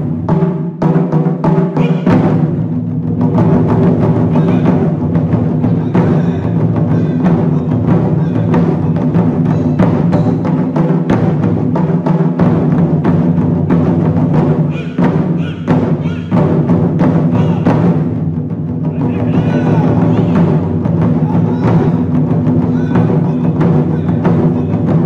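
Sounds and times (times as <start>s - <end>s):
drum ensemble playing fast rhythm: 0.0s - 25.0s.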